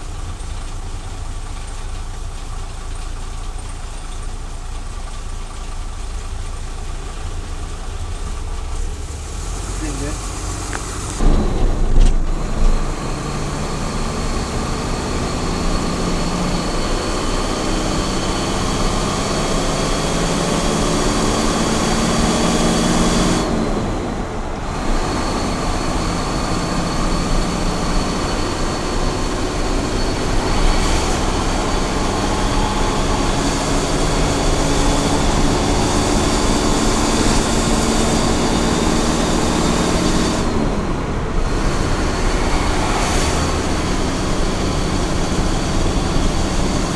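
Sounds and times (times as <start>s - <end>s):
road and tyre noise: 0.0s - 46.9s
truck engine pulling: 0.0s - 46.9s.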